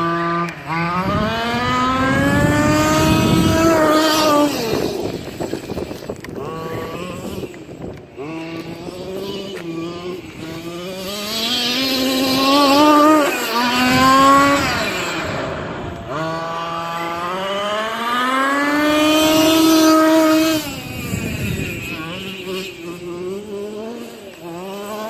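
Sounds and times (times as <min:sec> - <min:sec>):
small two-stroke engine accelerating: 0:00.0 - 0:25.0.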